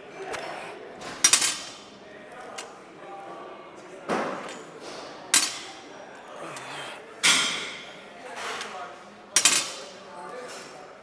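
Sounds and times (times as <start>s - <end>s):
faint voices: 0.0s - 11.0s.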